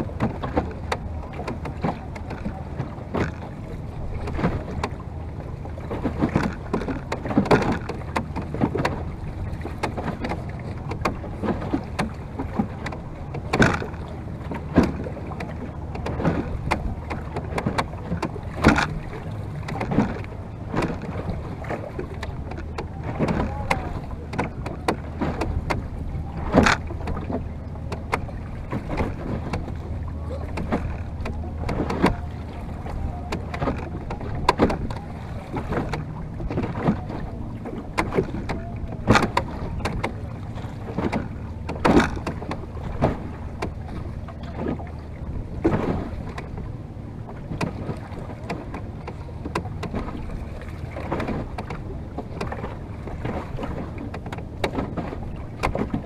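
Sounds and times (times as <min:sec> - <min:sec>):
water slapping against boat hull: 0:00.0 - 0:56.0
sharp knock on hull: 0:00.1 - 0:05.0, 0:05.8 - 0:56.0.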